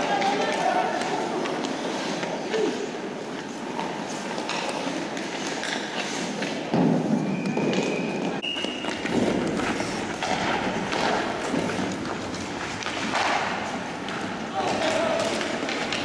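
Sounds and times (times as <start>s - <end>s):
sticks and puck clacking: 0.0s - 16.0s
skate blades scraping ice: 0.1s - 16.0s.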